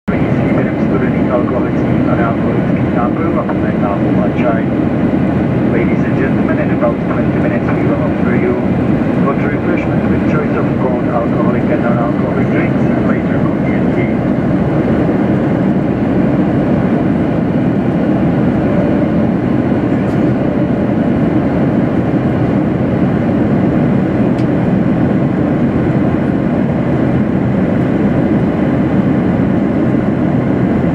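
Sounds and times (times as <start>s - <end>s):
airplane cabin noise: 0.1s - 30.9s.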